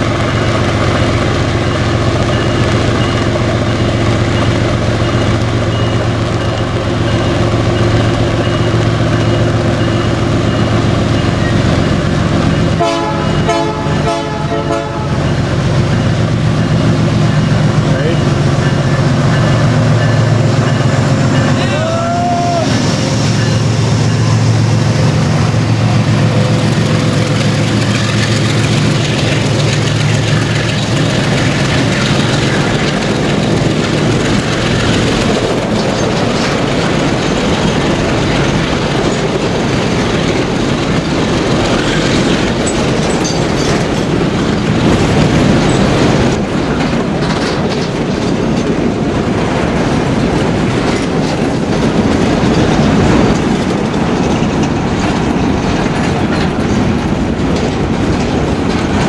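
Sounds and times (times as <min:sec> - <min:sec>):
diesel locomotive engine hum: 0:00.0 - 0:59.0
train wheels clacking on rails: 0:00.0 - 0:59.0.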